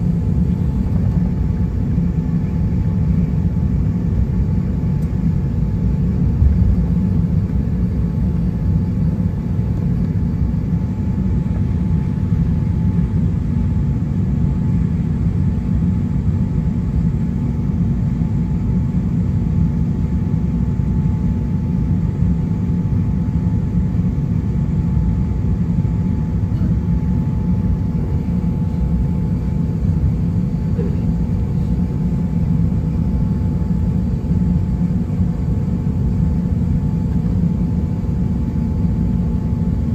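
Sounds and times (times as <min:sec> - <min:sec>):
airplane taxiing rumble: 0:00.0 - 0:39.9
faint engine whine: 0:00.0 - 0:39.9.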